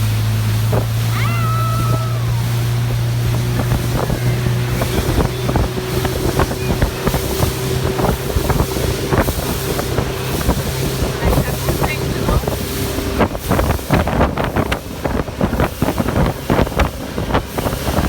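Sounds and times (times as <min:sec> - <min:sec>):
boat hull knocking on waves: 0:00.0 - 0:18.0
outboard motor running: 0:00.0 - 0:18.0
water noise: 0:00.0 - 0:18.0
wind on microphone: 0:00.0 - 0:18.0.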